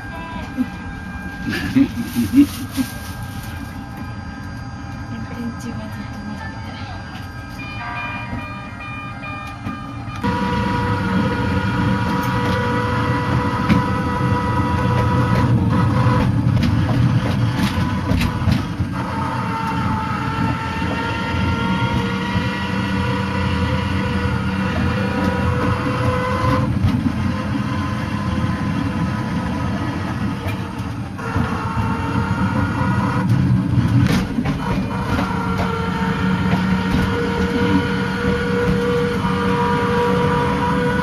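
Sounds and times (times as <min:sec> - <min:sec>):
motor whine: 0:00.0 - 0:41.0
wheels rumbling on rails: 0:00.0 - 0:41.0.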